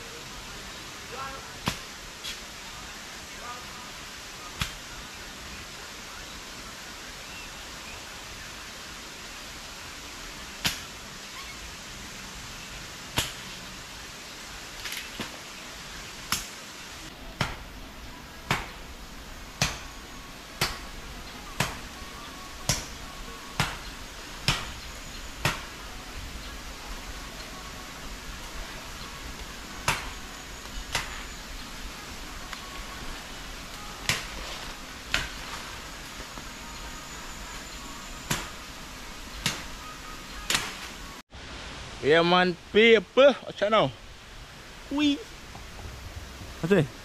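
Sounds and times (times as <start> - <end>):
background hiss: 0.0 - 47.0.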